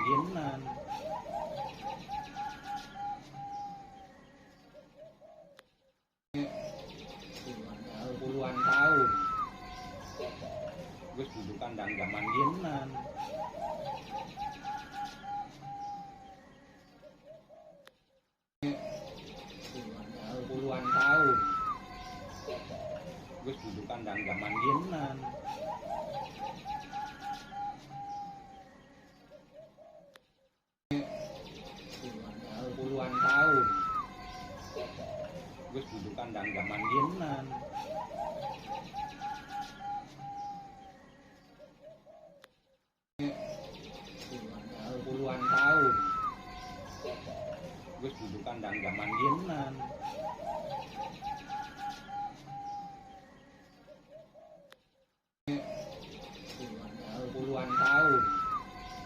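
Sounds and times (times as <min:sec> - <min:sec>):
dove cooing: 0:00.0 - 0:05.6, 0:07.9 - 0:17.9, 0:18.6 - 0:30.2, 0:30.9 - 0:42.5, 0:44.6 - 0:54.8.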